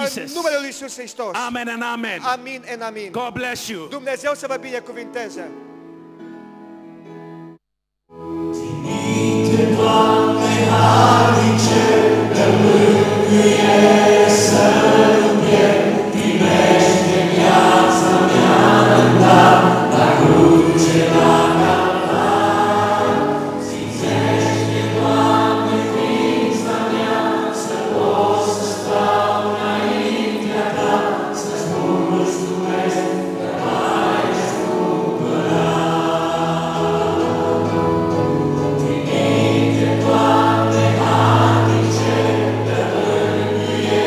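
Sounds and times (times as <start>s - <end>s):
congregation singing: 8.3s - 44.0s.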